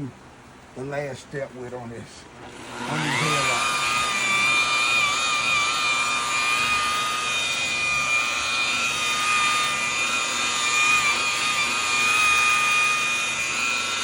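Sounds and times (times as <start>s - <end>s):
electric power tool motor whining: 2.4s - 14.0s.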